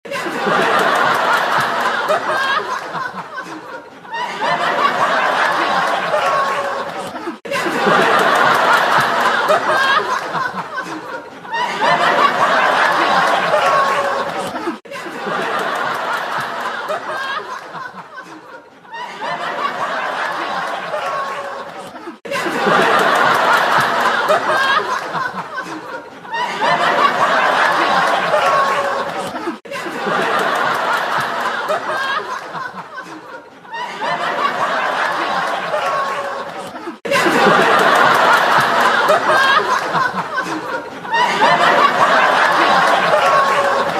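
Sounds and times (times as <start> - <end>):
group of people laughing: 0.0 - 43.9.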